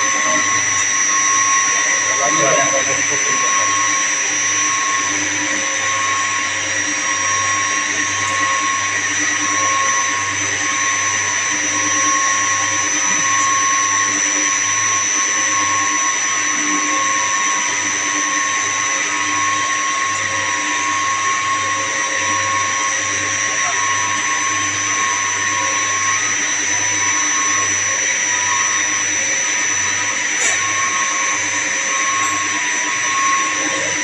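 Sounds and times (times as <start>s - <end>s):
slow pulsing hum: 0.0s - 28.6s
machinery whine: 0.0s - 34.0s.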